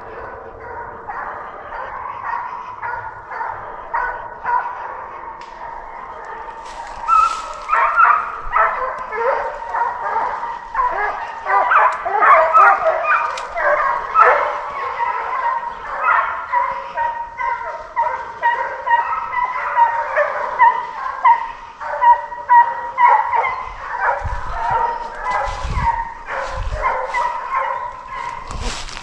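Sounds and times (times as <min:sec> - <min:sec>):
hounds baying and barking: 0:00.0 - 0:29.0.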